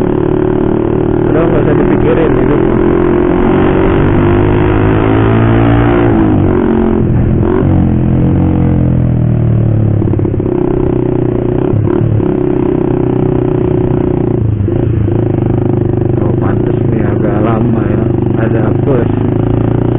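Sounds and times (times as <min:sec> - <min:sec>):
motorcycle engine with racing exhaust: 0:00.0 - 0:19.9.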